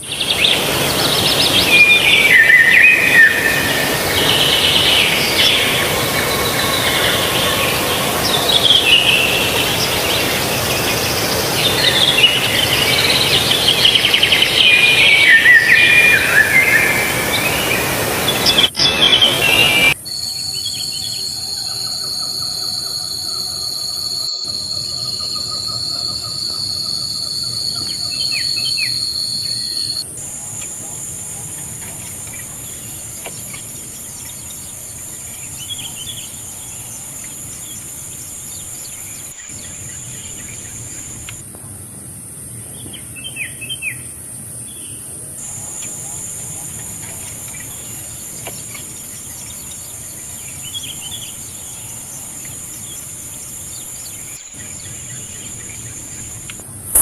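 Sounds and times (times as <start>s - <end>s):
loud bird calls: 0.0s - 37.8s, 45.4s - 57.0s
insect trill: 0.0s - 41.4s, 45.4s - 57.0s.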